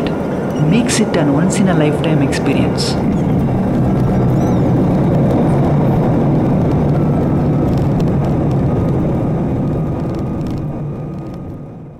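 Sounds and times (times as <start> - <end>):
jet engines and wheels rumbling: 0.0 - 11.9.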